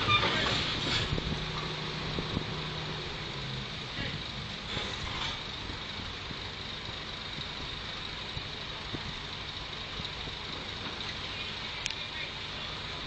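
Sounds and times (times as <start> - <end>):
heavy engine running: 0.0 - 13.0.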